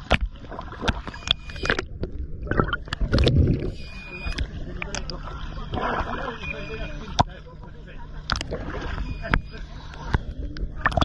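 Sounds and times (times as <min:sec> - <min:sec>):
sea water sloshing and gurgling: 0:00.0 - 0:11.0.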